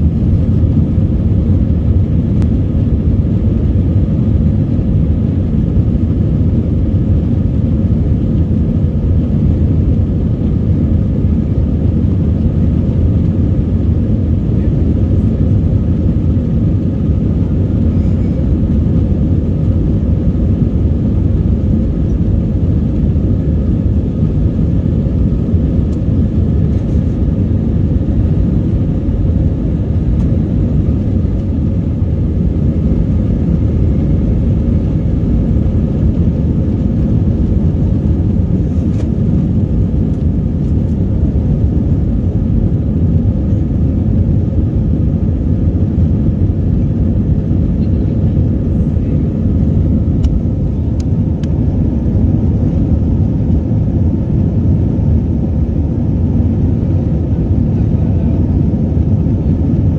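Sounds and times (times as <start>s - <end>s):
jet engine low rumble: 0.0s - 59.9s.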